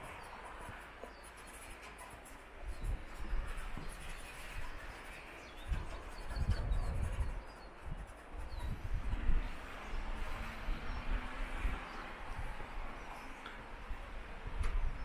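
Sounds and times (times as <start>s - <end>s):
wind gusts on microphone: 0.0s - 15.0s.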